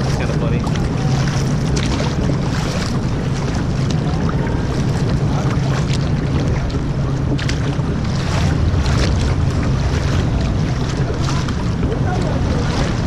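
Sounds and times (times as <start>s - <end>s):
short splashes: 0.0s - 13.0s
water rushing from pump outflow: 0.0s - 13.0s
wind buffeting microphone: 0.0s - 13.0s.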